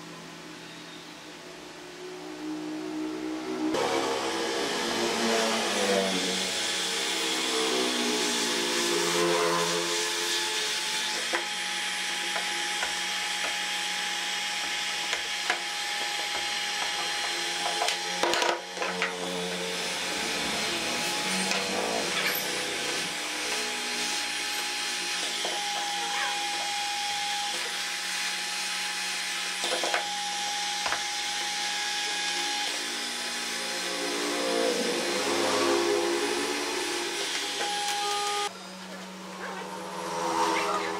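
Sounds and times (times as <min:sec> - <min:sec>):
heat gun blowing: 0:03.8 - 0:18.2, 0:18.8 - 0:38.6.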